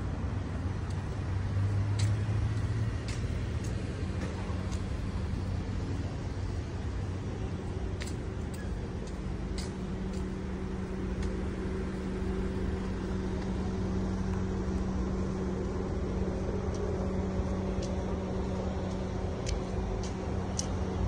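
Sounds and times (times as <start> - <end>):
low mechanical hum: 0.0 - 21.0
road traffic: 0.0 - 21.0.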